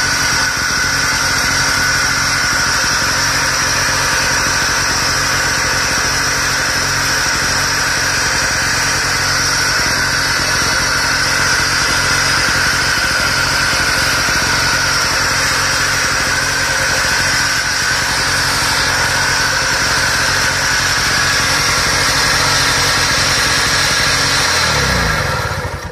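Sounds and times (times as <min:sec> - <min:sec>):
portable generator running: 0:00.0 - 0:25.9.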